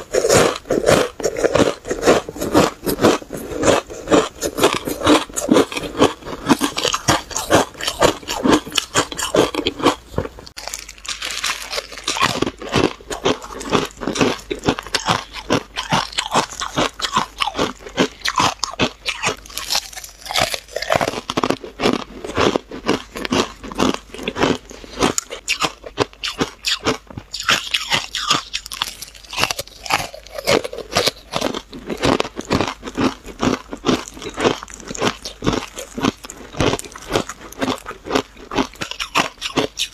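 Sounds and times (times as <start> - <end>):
ice chips crunching: 0.0 - 39.9.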